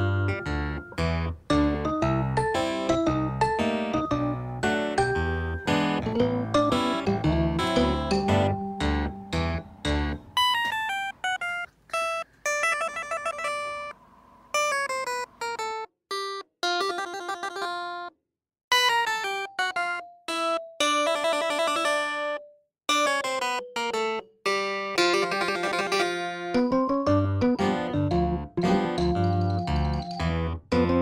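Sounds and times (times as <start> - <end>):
plucked instrumental melody: 0.0 - 14.0, 14.6 - 18.1, 18.7 - 31.0.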